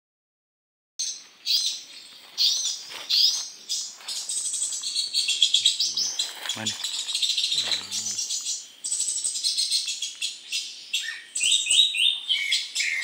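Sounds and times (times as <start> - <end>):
birds chirping: 1.0 - 13.0.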